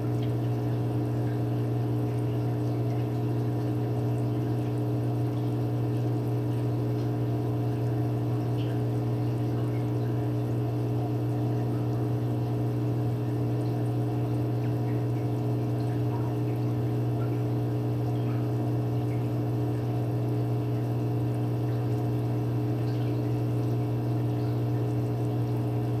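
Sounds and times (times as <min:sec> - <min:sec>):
filter pump humming: 0:00.0 - 0:26.0
water trickling and splashing: 0:00.0 - 0:26.0.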